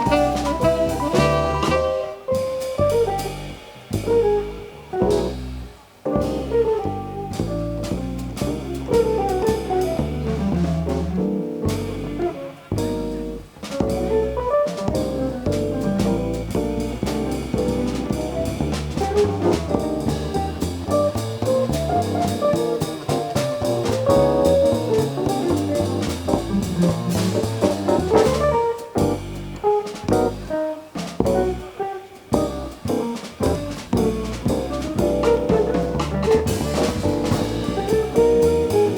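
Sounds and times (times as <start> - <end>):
jazz band playing live: 0.0 - 38.9.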